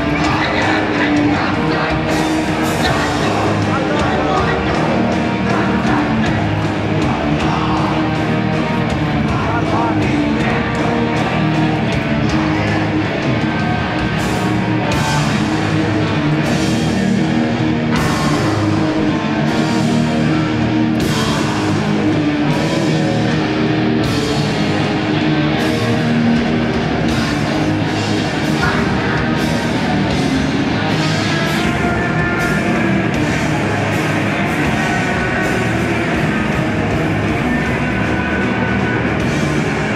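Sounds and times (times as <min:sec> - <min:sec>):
punk band playing live: 0:00.0 - 0:39.9.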